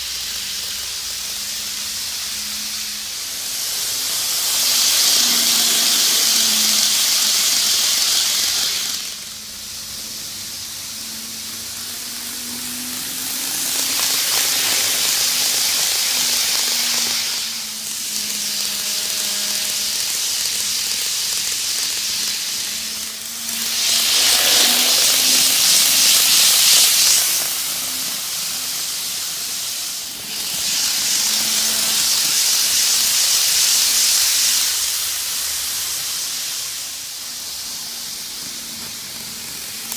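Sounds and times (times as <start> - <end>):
model train motor hum: 0.0 - 39.9
wheels rolling on rails: 0.0 - 39.9.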